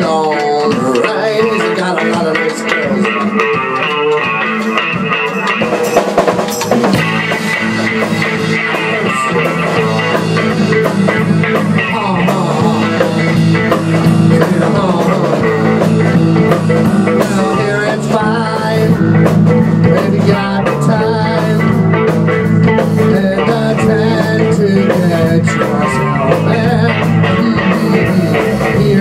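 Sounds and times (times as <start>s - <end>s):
drum kit: 0.0s - 29.0s
electric bass: 0.0s - 29.0s
electric guitar: 0.0s - 29.0s.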